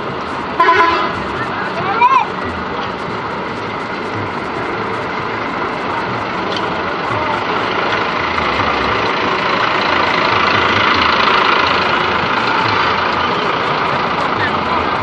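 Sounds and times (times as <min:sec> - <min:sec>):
diesel bus engine idling: 0:00.0 - 0:15.0.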